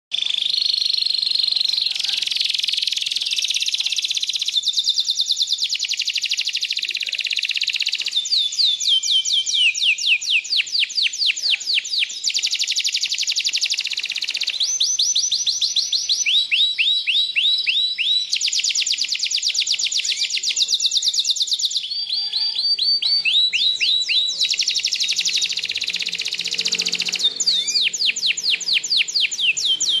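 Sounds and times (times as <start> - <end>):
canary singing trills: 0.1 - 30.0.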